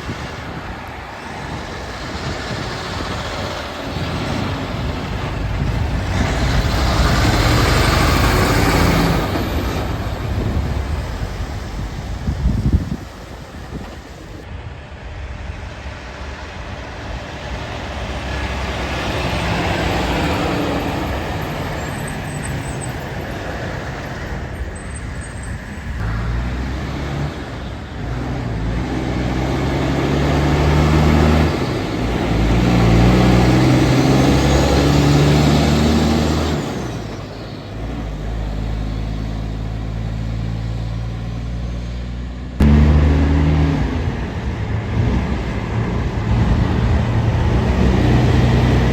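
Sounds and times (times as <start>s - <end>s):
diesel engine shifting gears: 0.0s - 14.5s, 17.4s - 48.9s
loud engine: 0.0s - 48.9s
road noise: 0.0s - 48.9s
trucks passing: 0.0s - 48.9s.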